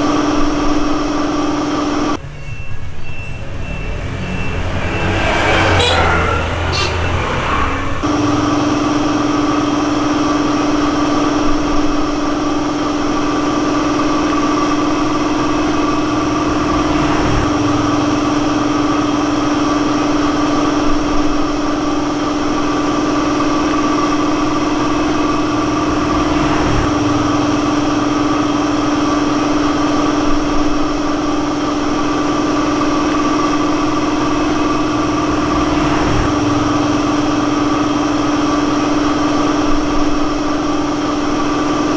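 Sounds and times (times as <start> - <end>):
motor humming steadily: 0.0 - 2.2, 8.0 - 41.9.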